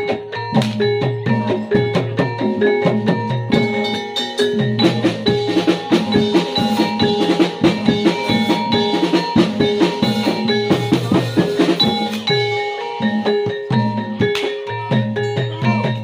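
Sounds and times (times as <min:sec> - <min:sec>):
drum strokes: 0:00.0 - 0:16.0
metal mallet instruments: 0:00.0 - 0:16.0.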